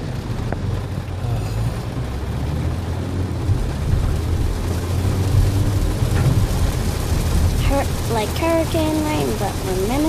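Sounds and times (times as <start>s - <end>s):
car rumbling: 0.0s - 10.0s
rain hissing on vehicle: 0.0s - 10.0s.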